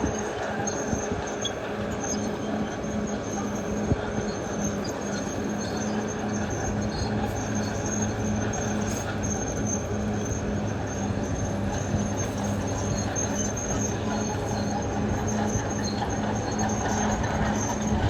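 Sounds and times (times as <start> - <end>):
diesel engine drone: 0.0 - 18.0
steel tracks clanking: 0.0 - 18.0.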